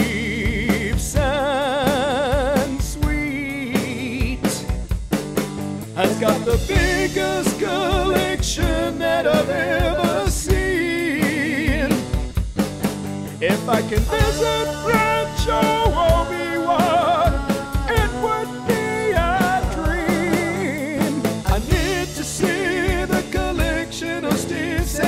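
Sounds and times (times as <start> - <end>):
man singing with vibrato: 0.0 - 4.7, 6.0 - 12.2, 13.4 - 25.0
rock backing track with drums: 0.0 - 25.0.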